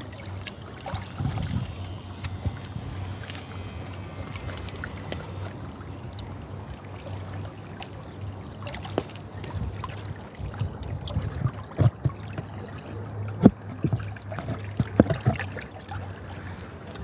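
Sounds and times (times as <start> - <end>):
small splashes and drips: 0.0 - 17.0
water flowing steadily: 0.0 - 17.0.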